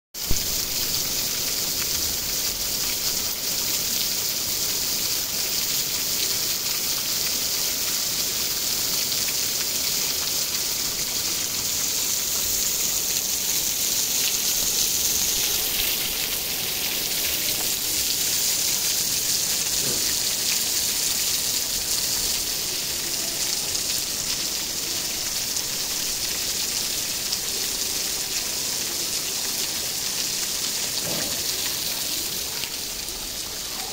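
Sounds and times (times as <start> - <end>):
heavy rain on asphalt: 0.2 - 33.9.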